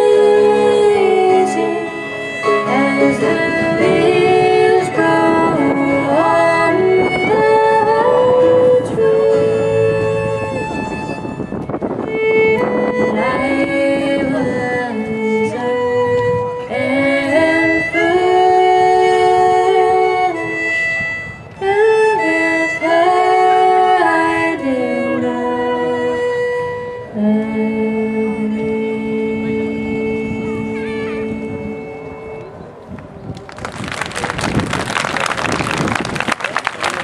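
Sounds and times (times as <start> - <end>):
bluegrass band with fiddle: 0.0 - 32.6.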